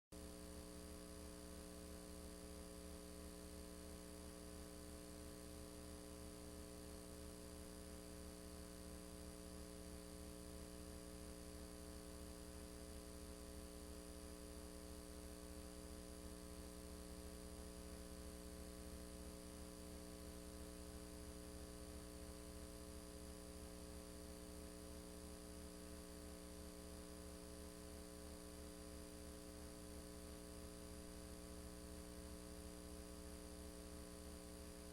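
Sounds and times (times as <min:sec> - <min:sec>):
faint electrical hum: 0:00.2 - 0:34.9.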